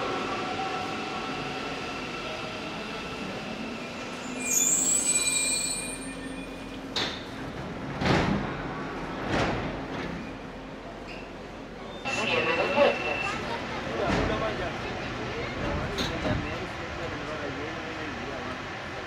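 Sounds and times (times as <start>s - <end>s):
subway train hum: 0.0s - 19.0s.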